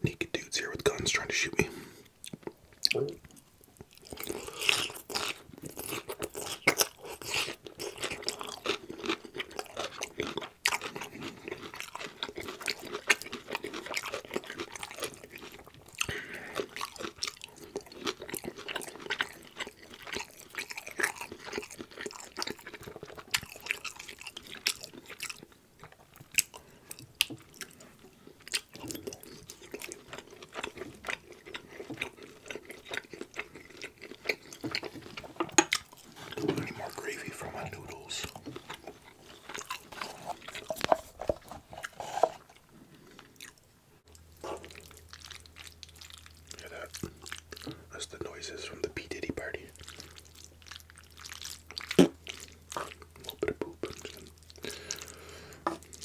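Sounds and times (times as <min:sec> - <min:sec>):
close chewing and mouth smacking: 0:00.0 - 0:56.0.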